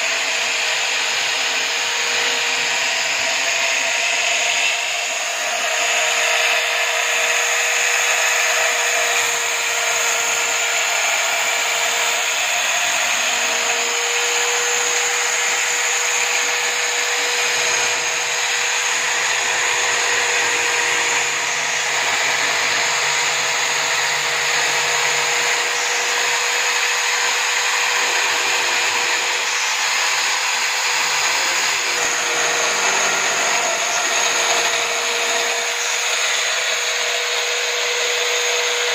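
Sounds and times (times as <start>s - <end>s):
drill motor whine: 0.0s - 38.9s.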